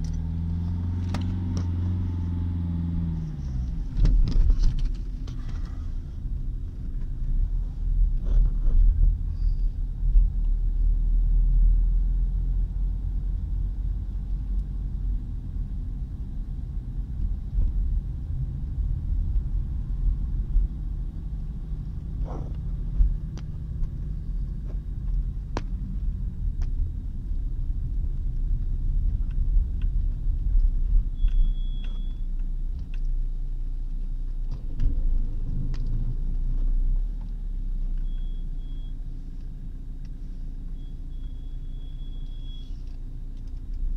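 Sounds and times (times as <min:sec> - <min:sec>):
car engine and tyre noise: 0:00.0 - 0:43.9.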